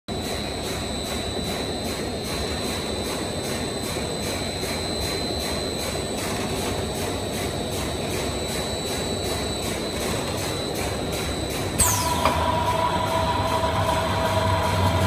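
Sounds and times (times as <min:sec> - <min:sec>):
machine hum with high whine: 0:00.1 - 0:15.0.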